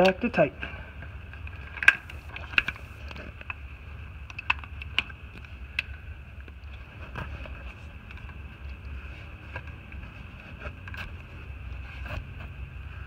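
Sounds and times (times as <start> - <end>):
steady low hum: 0.4 - 13.0.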